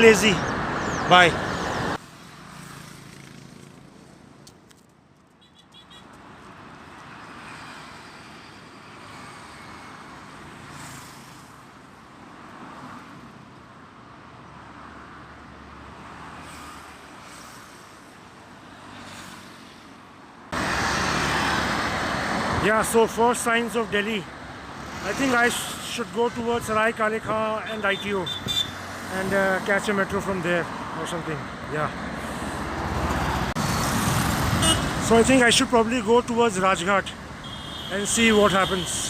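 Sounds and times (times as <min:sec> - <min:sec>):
loud traffic rush: 0:00.0 - 0:39.0
road traffic hum: 0:00.0 - 0:39.0.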